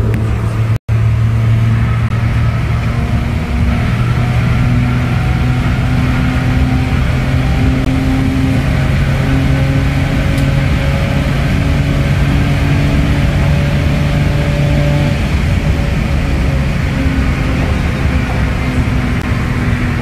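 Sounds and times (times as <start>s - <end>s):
car engine droning at high revs: 0.0s - 20.0s.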